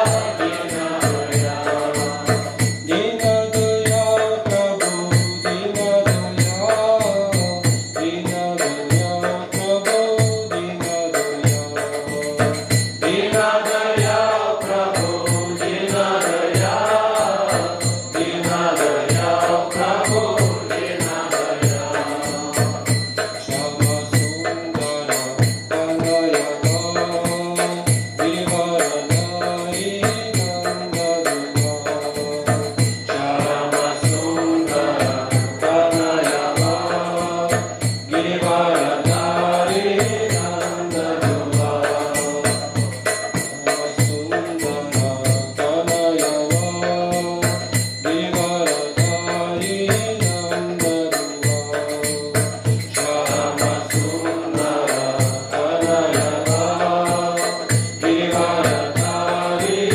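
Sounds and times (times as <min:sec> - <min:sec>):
hand cymbals jingling: 0:00.0 - 0:59.9
man singing chanted melody: 0:00.0 - 0:59.9.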